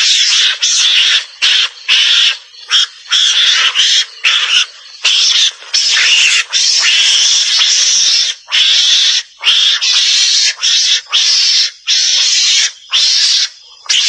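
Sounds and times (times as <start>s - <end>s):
mongoose hissing chatters: 0.0s - 14.0s.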